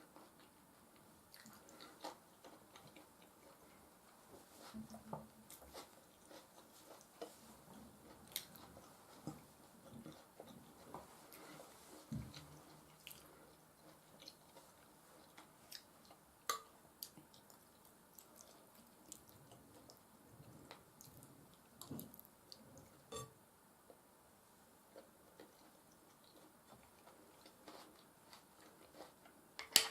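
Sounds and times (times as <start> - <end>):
chewing soft food: 0.0 - 23.2, 24.8 - 29.7.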